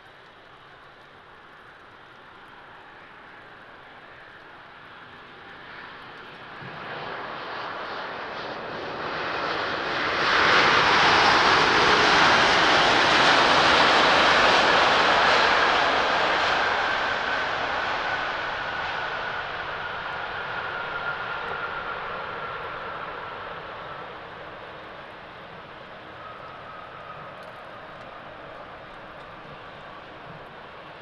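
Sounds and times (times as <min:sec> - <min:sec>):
engine whine: 0:00.0 - 0:31.0
jet airliner landing: 0:00.0 - 0:31.0.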